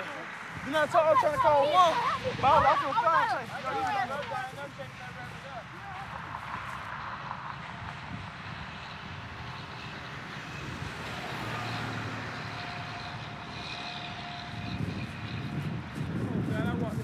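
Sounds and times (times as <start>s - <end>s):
heavy trucks passing: 0.0s - 17.0s.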